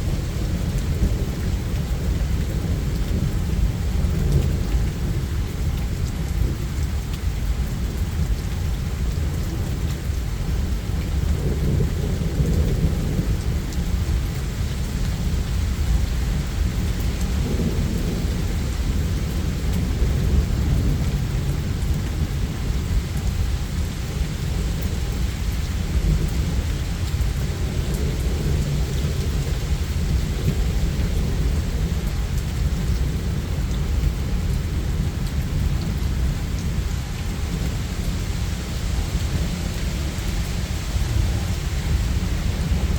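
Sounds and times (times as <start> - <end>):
low rolling thunder: 0.0 - 6.9, 9.1 - 42.9
steady rain: 0.0 - 42.9.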